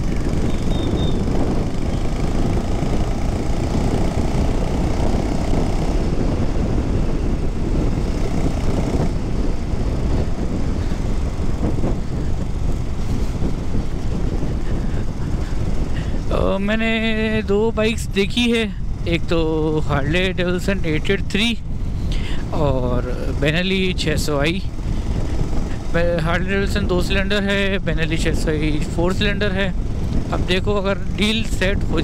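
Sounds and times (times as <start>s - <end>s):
motorcycle engine under throttle: 0.0s - 32.0s.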